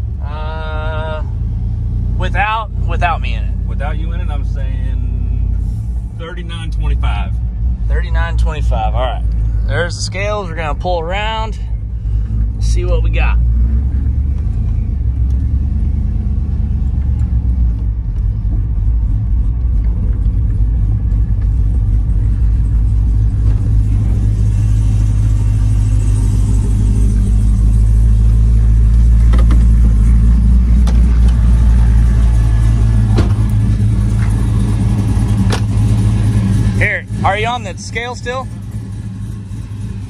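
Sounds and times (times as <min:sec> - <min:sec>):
truck engine rumbling: 0:00.0 - 0:40.0.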